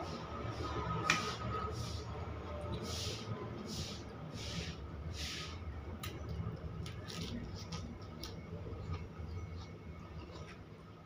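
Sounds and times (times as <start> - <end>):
man chewing and slurping noodles: 0.0 - 11.0.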